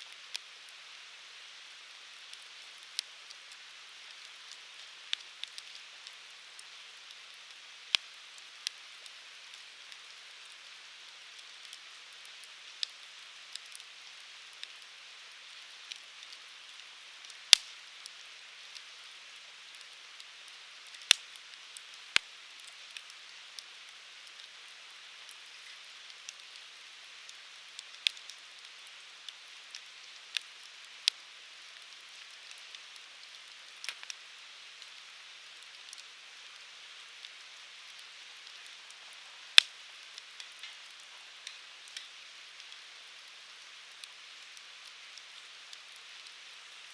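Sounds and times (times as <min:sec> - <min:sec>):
wood fire crackling and popping: 0:00.1 - 0:00.9, 0:01.6 - 0:46.9.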